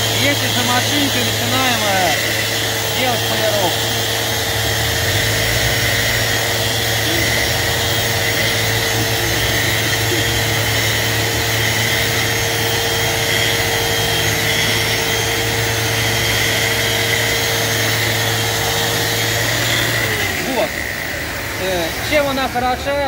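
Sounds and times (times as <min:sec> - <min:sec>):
sander motor hum with whine: 0:00.0 - 0:23.0.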